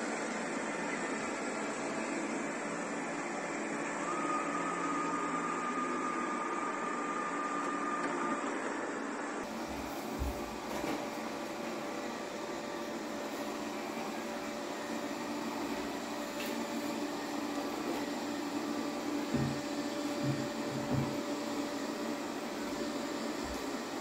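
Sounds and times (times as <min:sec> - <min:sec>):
robot vacuum humming: 0:00.0 - 0:24.0.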